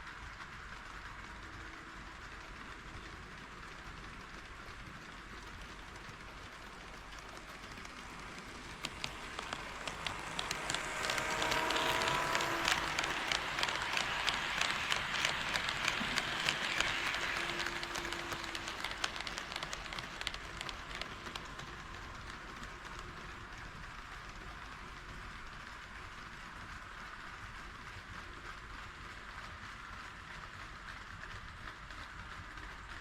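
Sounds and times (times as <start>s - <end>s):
model train wheels clicking: 0.0s - 33.0s.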